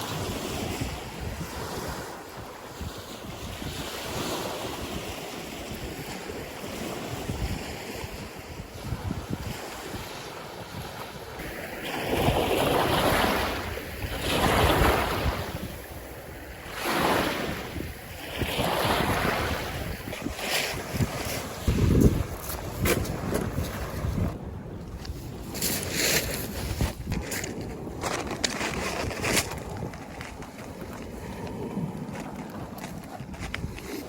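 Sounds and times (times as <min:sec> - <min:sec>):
sea surf: 0:00.0 - 0:34.0
wind on microphone: 0:00.0 - 0:34.0.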